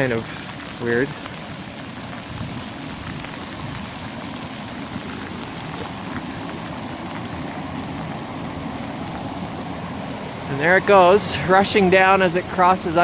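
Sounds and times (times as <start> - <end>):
rain falling: 0.0 - 13.0
water sucking into a culvert: 0.0 - 13.0.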